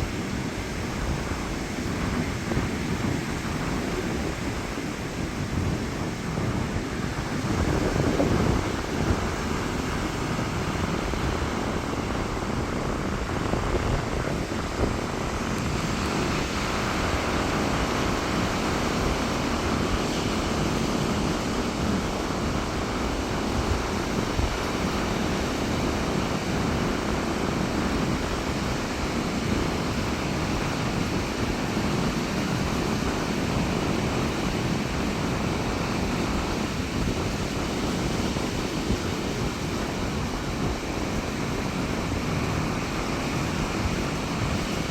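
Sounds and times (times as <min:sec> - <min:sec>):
sea surf breaking on beach: 0:00.0 - 0:44.9
wind buffeting microphone: 0:00.0 - 0:44.9.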